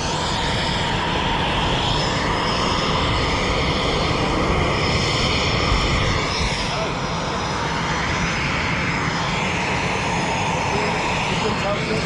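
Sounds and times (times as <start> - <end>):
faint high turbine whine: 0.0 - 12.0
jet engine rushing: 0.0 - 12.0.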